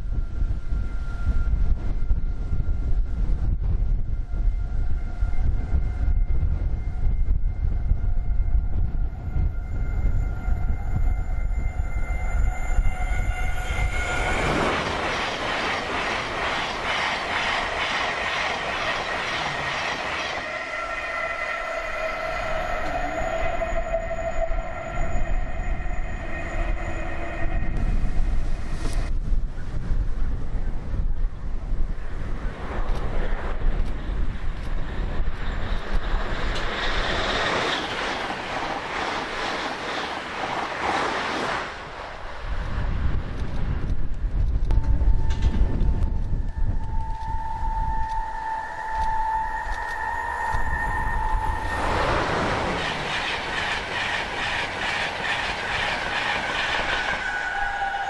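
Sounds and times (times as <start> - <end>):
train passing at speed: 0.0 - 58.0
wind buffeting microphone: 0.0 - 58.0.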